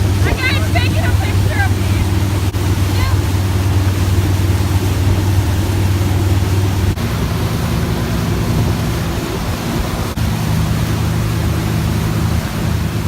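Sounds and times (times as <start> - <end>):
motorboat engine running: 0.0 - 13.0
wind and water spray rushing: 0.0 - 13.0.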